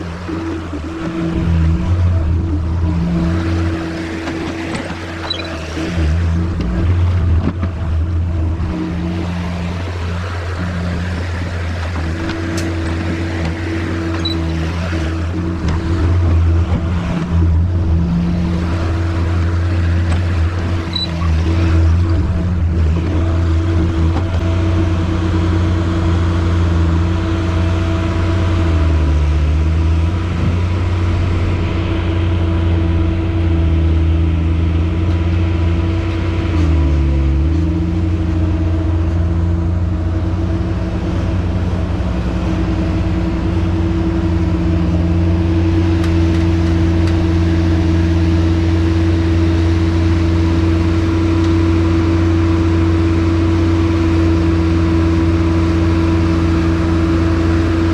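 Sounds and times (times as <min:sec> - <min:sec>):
loader engine running: 0:00.0 - 0:57.9.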